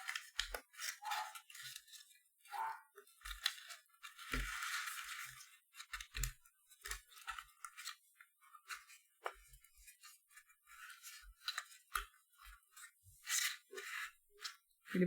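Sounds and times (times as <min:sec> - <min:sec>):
paper crinkling rustle: 0:00.0 - 0:14.9.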